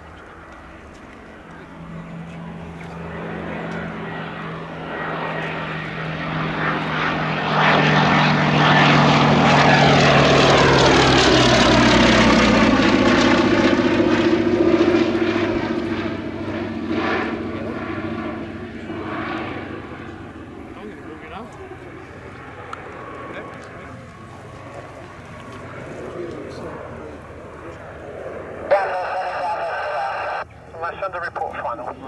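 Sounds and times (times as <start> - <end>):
propeller plane flying past: 0.0 - 32.0.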